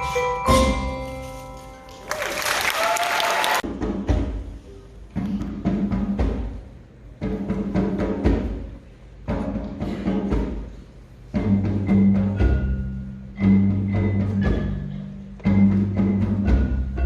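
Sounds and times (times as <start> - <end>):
drum and mallet strikes: 0.0 - 2.0, 3.6 - 17.0.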